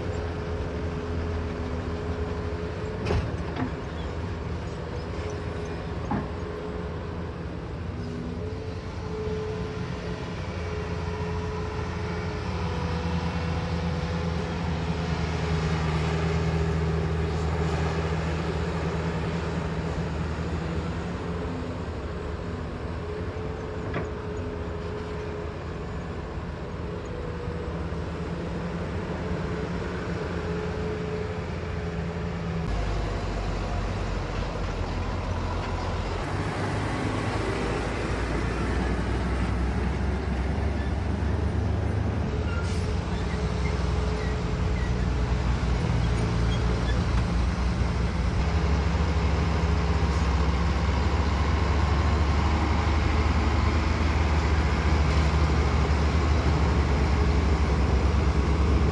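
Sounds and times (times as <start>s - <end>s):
diesel machinery engine running: 0.0s - 58.9s.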